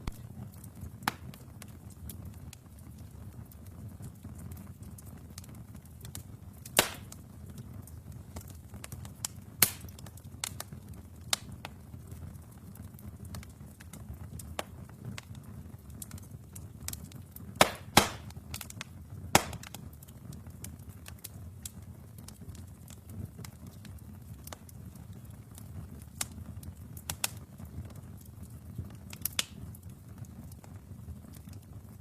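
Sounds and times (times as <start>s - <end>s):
burning logs popping and snapping: 0.0s - 32.0s
low rumble of flames: 0.0s - 32.0s.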